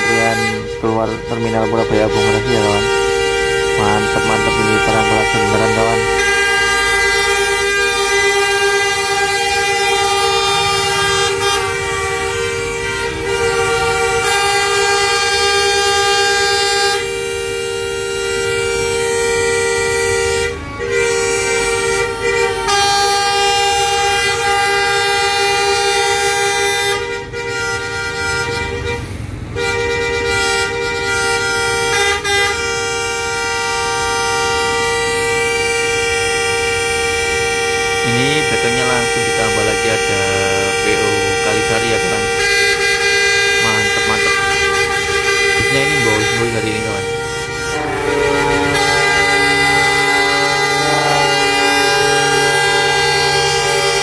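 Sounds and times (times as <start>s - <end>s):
bus horns blasting: 0.0s - 54.0s.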